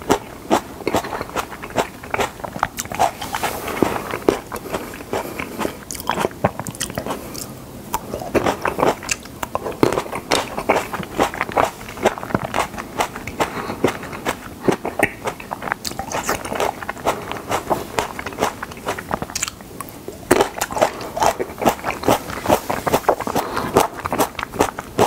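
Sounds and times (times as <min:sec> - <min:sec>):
chewing tomatoes: 0:00.0 - 0:25.0
wet mouth sounds: 0:00.0 - 0:25.0.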